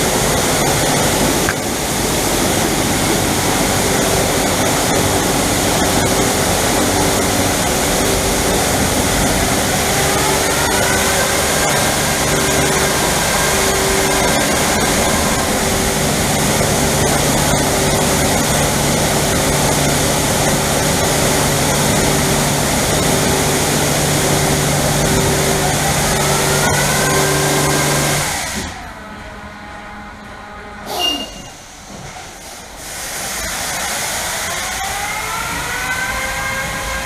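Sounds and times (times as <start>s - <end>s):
high-pressure water spraying: 0.0s - 28.8s, 32.3s - 37.0s
machine hum: 0.0s - 32.1s
motor whine gliding in pitch: 0.1s - 30.9s.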